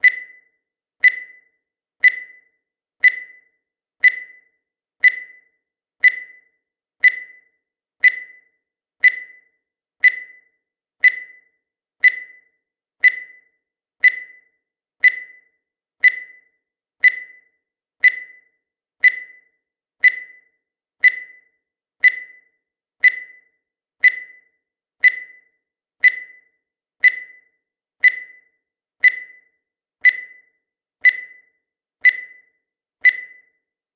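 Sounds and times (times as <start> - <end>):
short high-pitched timer beeps: 0.0 - 33.7.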